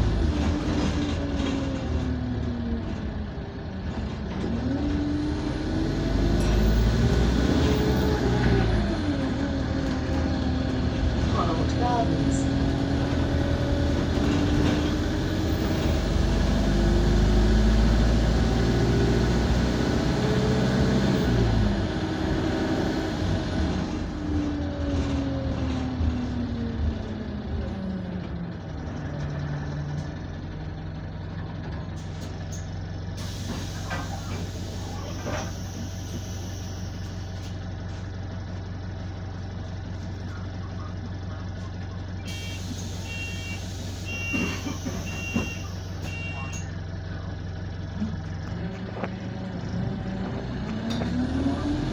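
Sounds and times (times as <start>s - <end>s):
bus diesel engine: 0.0s - 51.9s.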